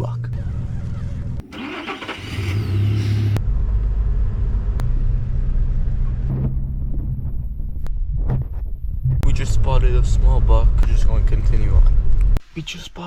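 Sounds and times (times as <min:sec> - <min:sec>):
car engine and road noise: 0:00.3 - 0:12.4.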